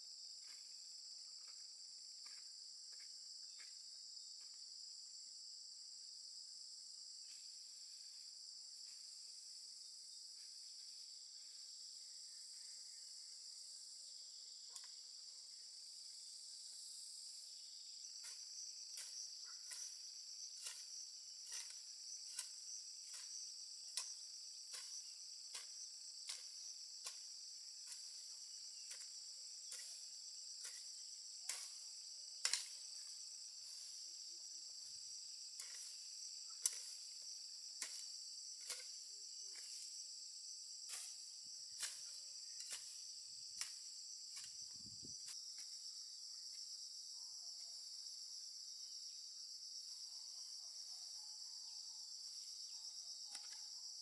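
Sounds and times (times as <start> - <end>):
insects chirring: 7.1 - 54.0.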